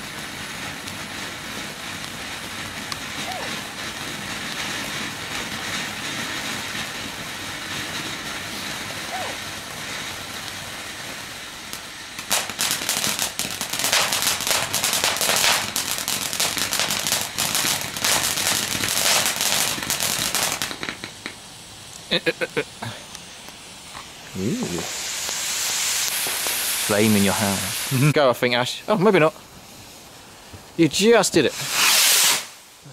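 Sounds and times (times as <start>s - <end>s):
firework fountain hissing: 0.0s - 32.9s
firework rapid crackling: 0.0s - 32.9s.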